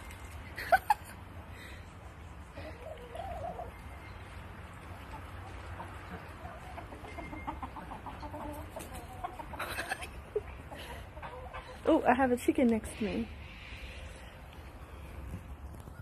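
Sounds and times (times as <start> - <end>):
chickens clucking: 0.0 - 13.3.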